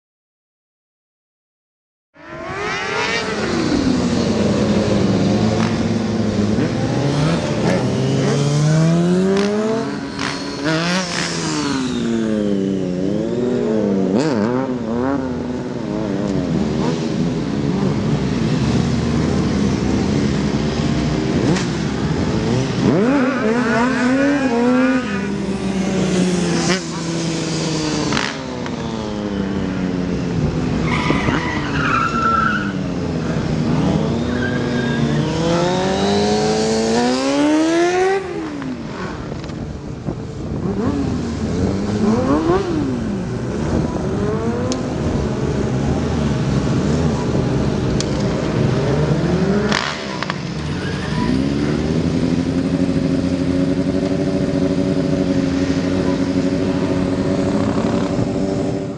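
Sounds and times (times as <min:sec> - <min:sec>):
motorcycle engine revving: 0:02.2 - 0:31.7, 0:32.6 - 0:58.9.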